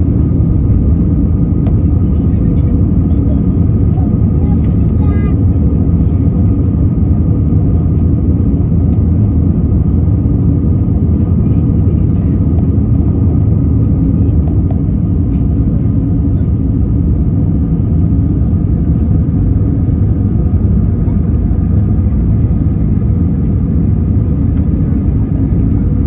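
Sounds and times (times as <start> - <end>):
airplane cabin engine roar: 0.0 - 26.0.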